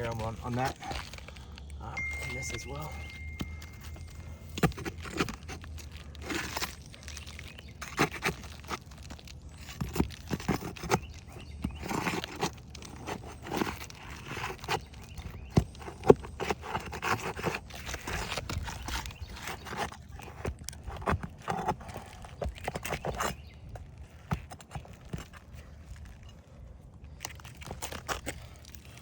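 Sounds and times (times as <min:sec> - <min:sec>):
roof shingles scraping and crackling: 0:00.0 - 0:01.9, 0:03.8 - 0:29.0.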